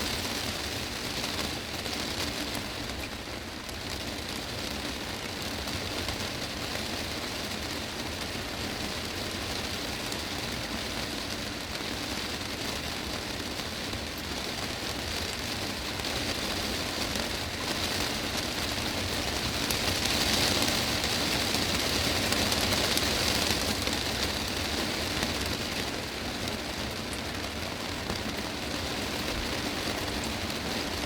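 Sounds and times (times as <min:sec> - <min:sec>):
heavy rain on a glass roof: 0:00.0 - 0:31.0.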